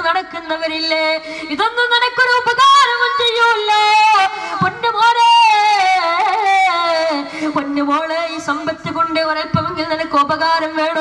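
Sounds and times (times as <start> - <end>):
boy singing: 0.0 - 11.0.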